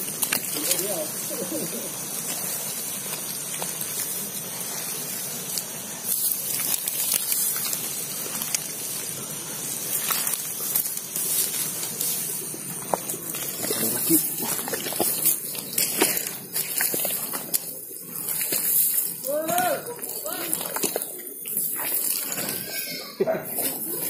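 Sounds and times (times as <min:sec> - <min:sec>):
hands squeezing wet mud: 0:00.0 - 0:24.0.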